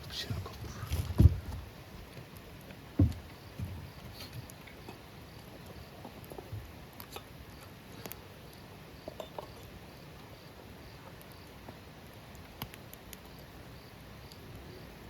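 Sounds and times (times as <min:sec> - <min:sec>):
wood fire crackling: 0:00.0 - 0:08.8, 0:09.6 - 0:14.6.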